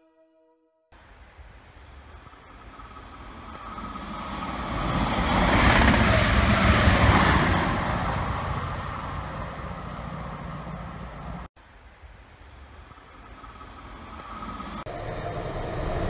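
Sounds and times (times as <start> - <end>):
diesel train passing: 1.0 - 11.5, 12.7 - 16.0.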